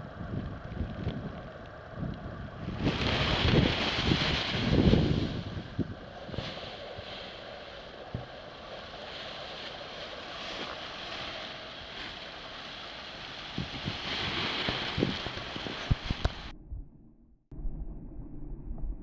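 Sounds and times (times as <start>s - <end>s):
wind on microphone: 0.0s - 16.8s.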